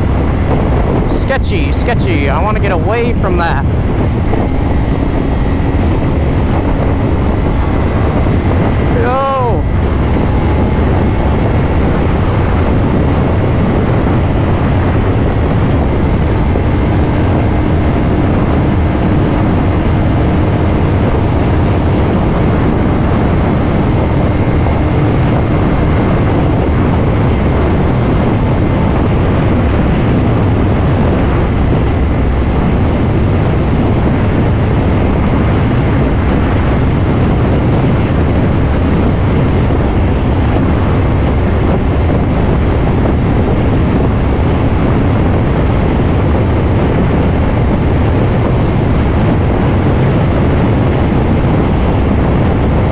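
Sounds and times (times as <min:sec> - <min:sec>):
motorcycle engine droning: 0:00.0 - 0:52.9
wind rushing on microphone: 0:00.0 - 0:52.9.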